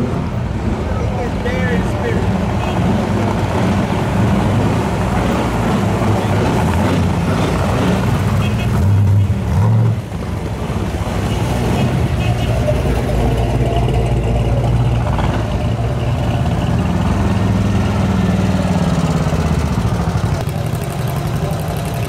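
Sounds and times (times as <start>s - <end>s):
car engines rumbling past: 0.0s - 22.0s.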